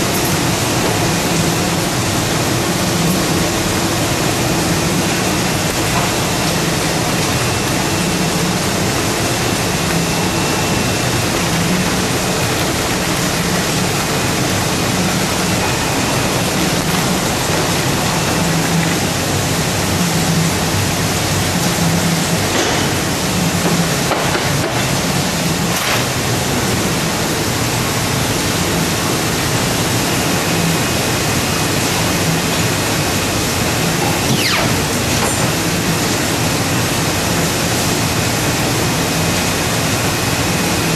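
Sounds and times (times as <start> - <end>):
paper-cutting machine running: 0.0 - 40.9.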